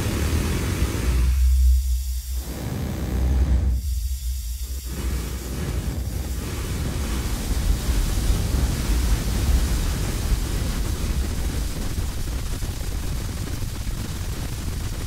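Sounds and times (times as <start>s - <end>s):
dense granular synth noise: 0.0s - 15.0s.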